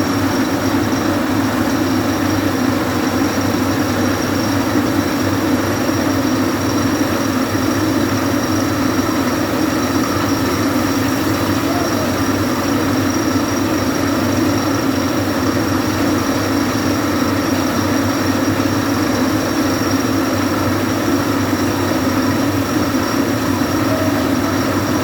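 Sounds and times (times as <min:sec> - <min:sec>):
engine running with loud drone: 0:00.0 - 0:25.0.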